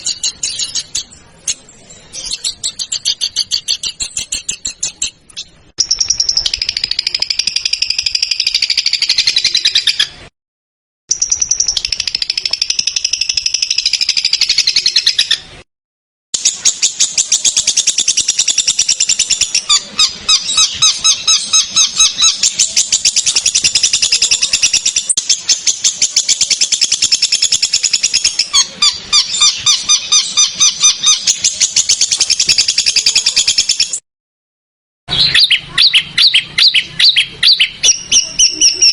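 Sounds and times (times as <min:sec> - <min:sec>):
songbird song: 0:00.0 - 0:10.3, 0:11.1 - 0:15.6, 0:16.4 - 0:34.0, 0:35.1 - 0:38.9.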